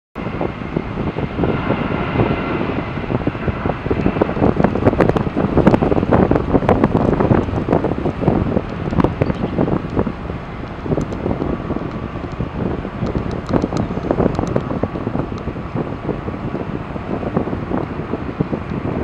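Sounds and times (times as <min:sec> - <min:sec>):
distant jet hum: 0:00.2 - 0:19.0
wind buffeting microphone: 0:00.2 - 0:19.0.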